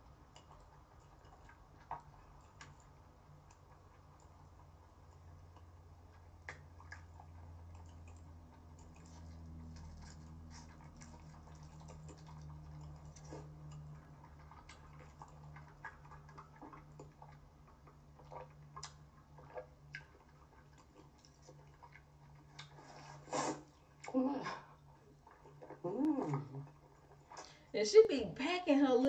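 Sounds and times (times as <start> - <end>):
person chewing noodles: 0.0 - 27.7
low steady hum: 0.0 - 29.0.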